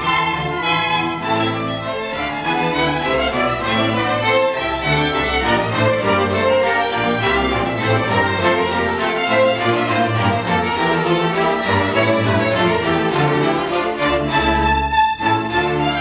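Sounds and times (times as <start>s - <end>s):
string orchestra playing: 0.0s - 16.0s.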